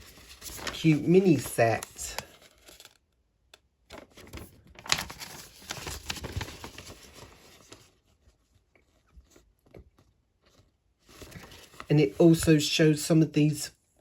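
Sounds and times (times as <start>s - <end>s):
paper rustling: 0.0s - 3.0s, 3.9s - 12.8s.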